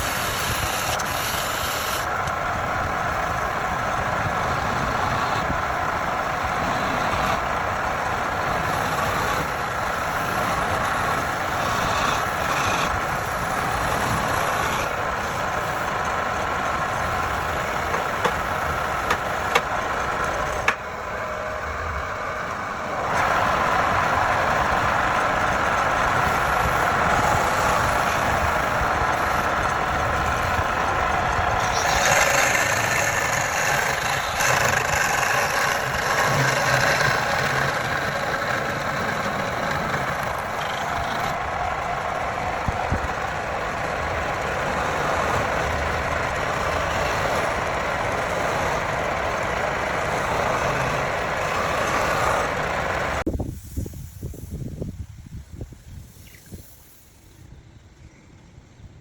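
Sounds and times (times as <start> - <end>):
wood lathe tool cutting wood: 0.0 - 53.3.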